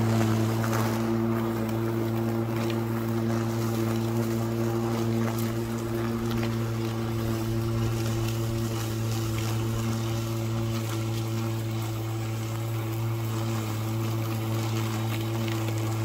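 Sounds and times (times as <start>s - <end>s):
electric lawn mower humming: 0.0s - 16.0s.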